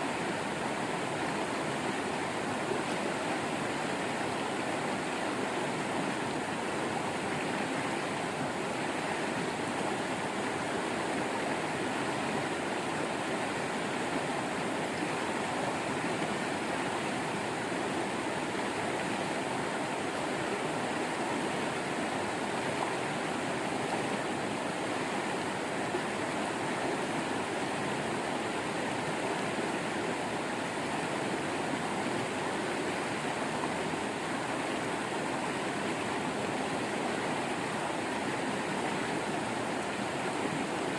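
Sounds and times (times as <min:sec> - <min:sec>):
waterfall running steadily: 0:00.0 - 0:40.9.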